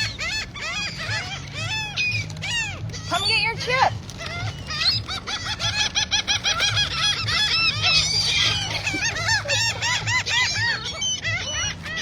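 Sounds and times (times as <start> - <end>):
seagulls squawking: 0.0 - 12.0.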